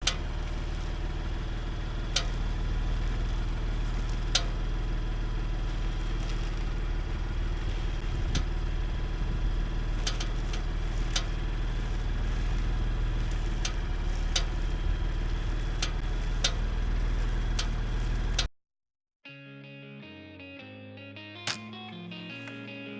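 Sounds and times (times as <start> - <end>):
car engine idling: 0.0 - 18.5.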